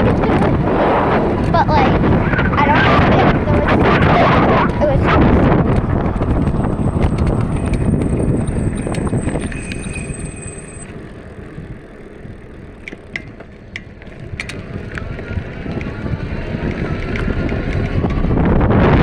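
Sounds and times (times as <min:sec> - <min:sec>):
wind rumble on microphone: 0:00.0 - 0:19.0
bike clicks and ticks: 0:03.4 - 0:18.8.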